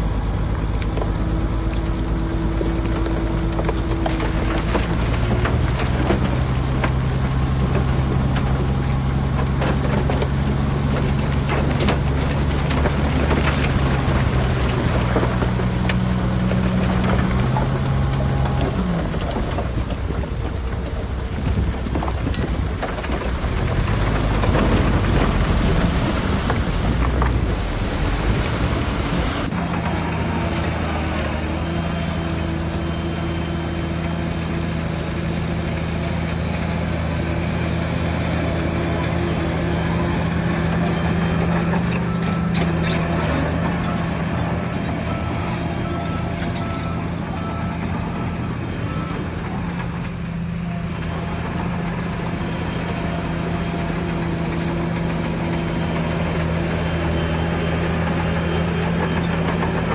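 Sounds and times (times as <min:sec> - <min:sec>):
steady engine running: 0:00.0 - 0:21.7, 0:22.7 - 0:59.9
heavy diesel engine under load: 0:00.0 - 0:59.9.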